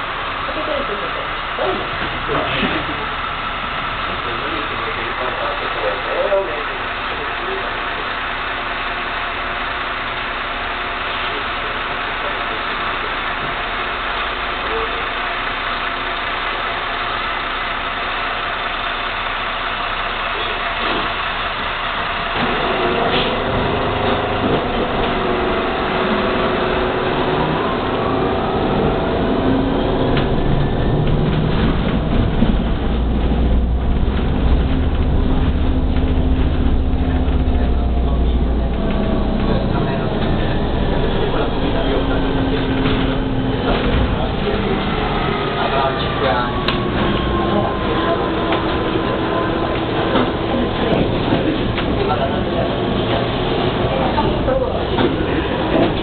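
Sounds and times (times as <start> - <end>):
road rumble: 0.0 - 56.0
trolleybus cabin hum: 0.0 - 56.0.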